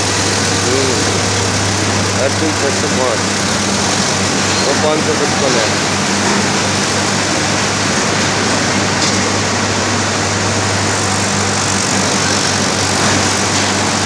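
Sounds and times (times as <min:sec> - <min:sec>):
tractor diesel engine running: 0:00.0 - 0:14.0
yard noise: 0:00.0 - 0:14.0.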